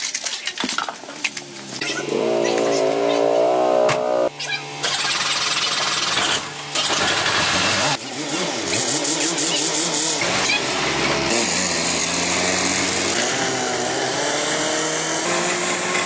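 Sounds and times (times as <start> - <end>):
small power tool motor running: 1.7 - 16.0.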